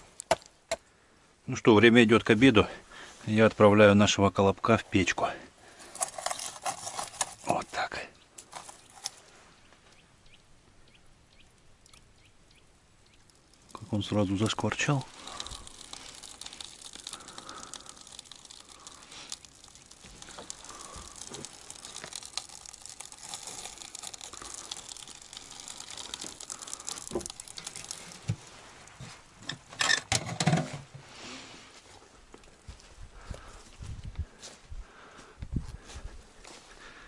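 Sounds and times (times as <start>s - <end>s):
wood fire crackling: 4.7s - 35.2s.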